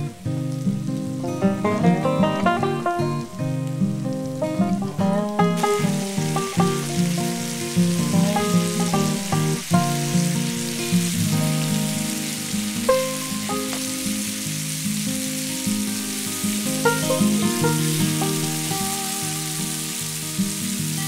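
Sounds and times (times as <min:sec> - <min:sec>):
background music with held notes: 0:00.0 - 0:21.0
chicken sizzling in a pan: 0:00.0 - 0:21.0.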